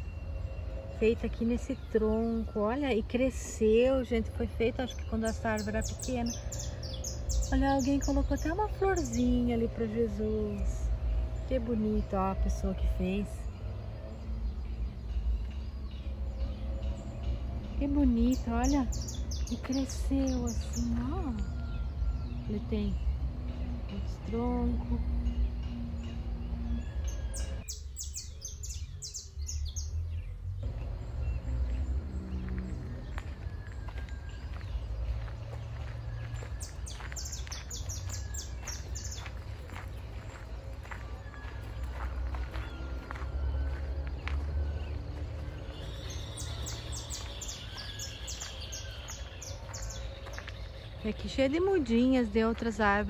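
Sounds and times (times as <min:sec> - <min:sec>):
birds chirping: 0:00.0 - 0:53.0
low rumble: 0:00.0 - 0:53.0.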